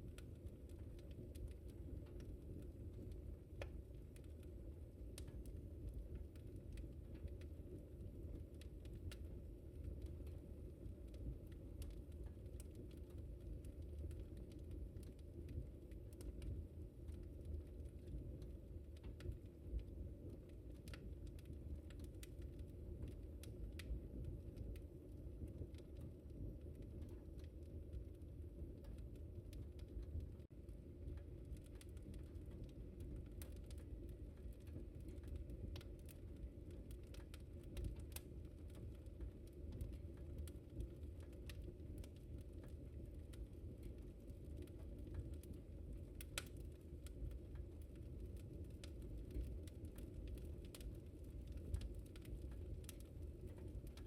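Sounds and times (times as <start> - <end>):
flames rumbling: 0.0 - 54.0
wood fire pops and snaps: 0.0 - 54.0.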